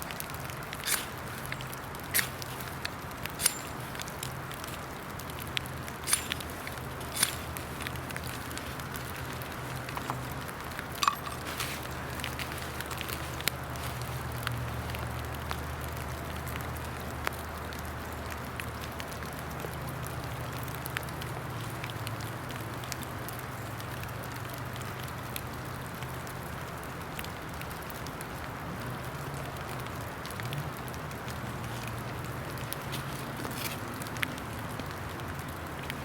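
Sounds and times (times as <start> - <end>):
steady rain: 0.0 - 36.0
water drips and ticks: 0.0 - 36.0.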